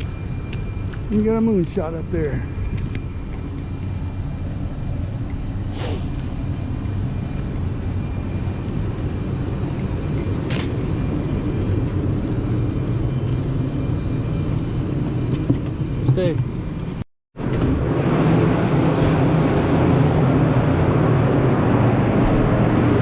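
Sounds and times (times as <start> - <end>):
machinery rumbling: 0.0 - 23.0.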